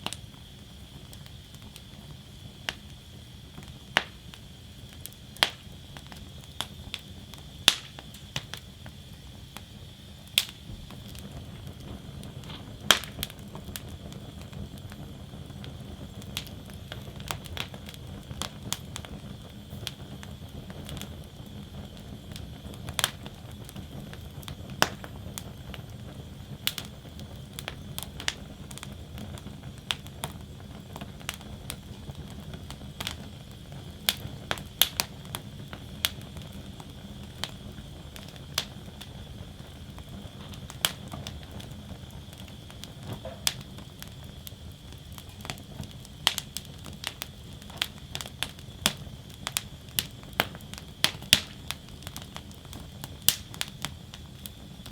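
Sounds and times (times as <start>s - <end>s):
burning wood crackling and popping: 0.0s - 54.9s
low rush of flame: 0.0s - 54.9s.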